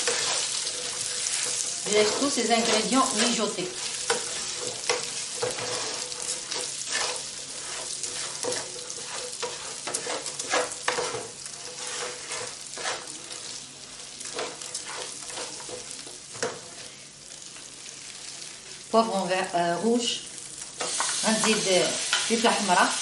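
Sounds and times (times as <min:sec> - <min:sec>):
spoon scraping a pan: 0:00.0 - 0:13.6, 0:14.2 - 0:17.0, 0:20.8 - 0:22.9
vegetables sizzling in a pan: 0:00.0 - 0:23.0.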